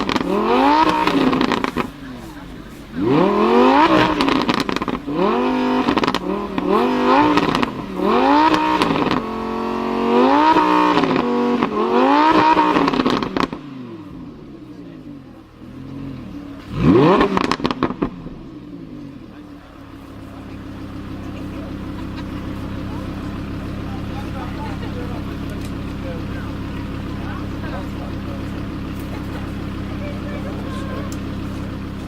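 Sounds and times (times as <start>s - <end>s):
car engine revving: 0.0s - 32.0s
exhaust crackles and pops: 0.0s - 32.0s.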